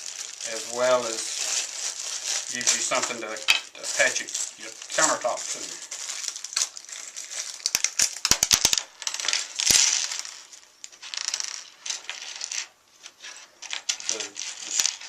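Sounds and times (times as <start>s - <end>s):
soft rustling: 0.0s - 7.7s, 9.3s - 15.0s.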